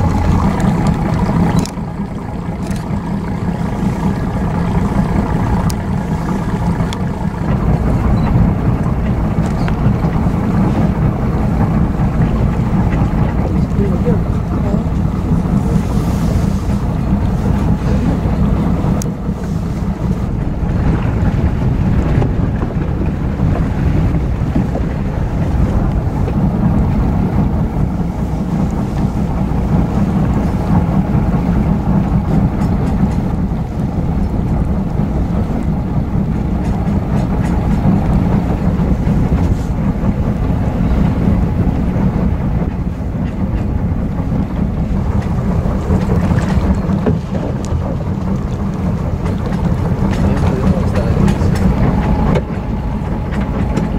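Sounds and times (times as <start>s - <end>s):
boat engine rumbling: 0.0s - 53.9s
wind buffeting microphone: 0.0s - 53.9s.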